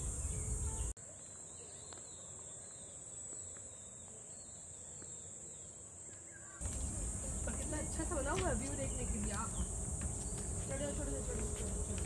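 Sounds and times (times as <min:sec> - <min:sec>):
insects droning in chorus: 0:00.0 - 0:12.0.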